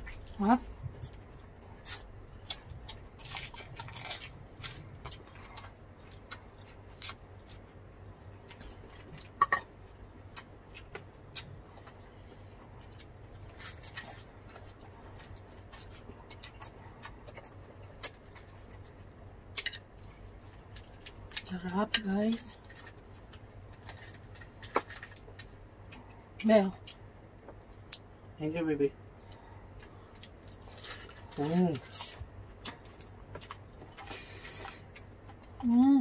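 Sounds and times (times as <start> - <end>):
chewing and crunching: 0.0 - 27.0, 29.1 - 35.7.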